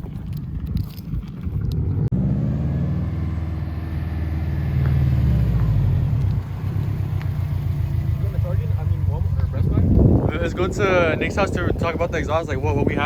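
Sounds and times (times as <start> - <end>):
car engine accelerating: 1.6 - 13.0.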